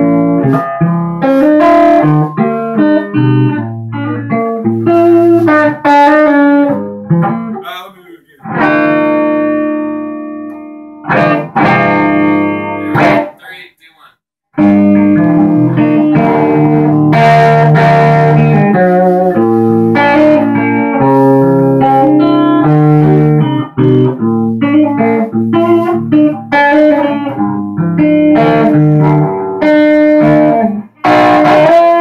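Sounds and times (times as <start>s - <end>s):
electric guitar playing: 0.0s - 7.6s, 8.4s - 13.3s, 14.6s - 32.0s.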